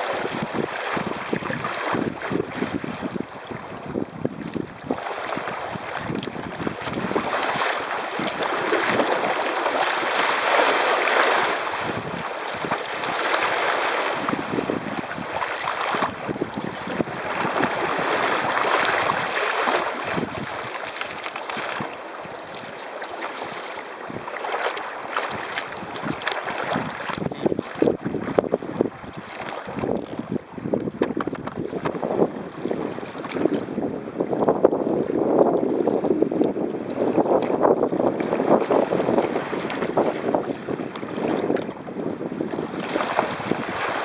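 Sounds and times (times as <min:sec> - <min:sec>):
wind buffeting microphone: 0:00.0 - 0:22.8, 0:23.4 - 0:24.5, 0:25.1 - 0:44.0
water rushing along hull: 0:00.0 - 0:44.0.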